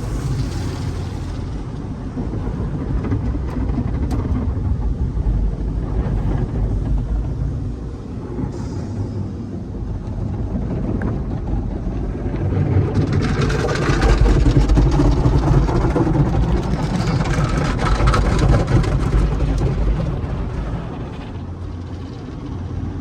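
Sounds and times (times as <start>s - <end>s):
car wash equipment rushing: 0.0s - 23.0s.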